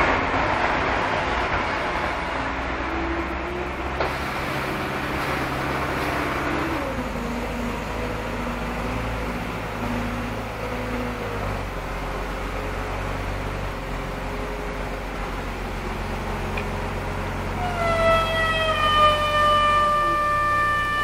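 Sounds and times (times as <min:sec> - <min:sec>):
heavy diesel machinery running: 0:00.0 - 0:21.0.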